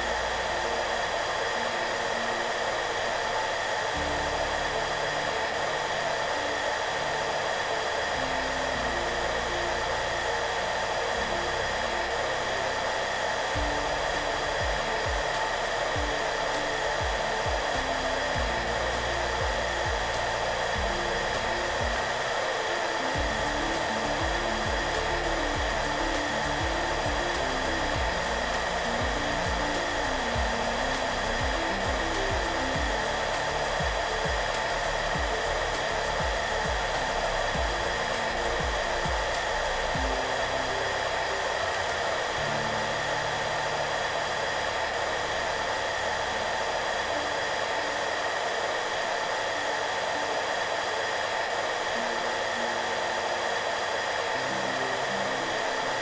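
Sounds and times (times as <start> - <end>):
hair dryer running: 0.0 - 56.0
soft background music: 0.0 - 56.0.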